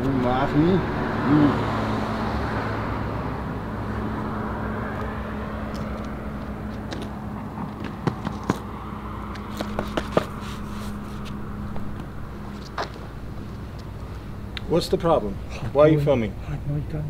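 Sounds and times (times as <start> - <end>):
light traffic: 0.0 - 17.0.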